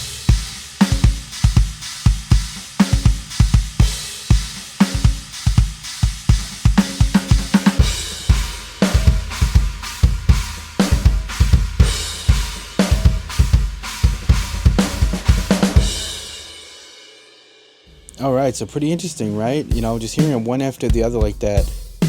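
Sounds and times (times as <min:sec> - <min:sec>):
electronic drum groove: 0:00.0 - 0:16.7, 0:17.9 - 0:22.0.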